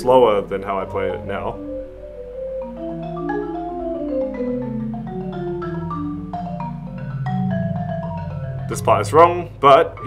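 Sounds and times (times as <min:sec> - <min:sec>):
rolled low marimba notes: 0:00.0 - 0:10.0
marimba notes: 0:00.1 - 0:10.0.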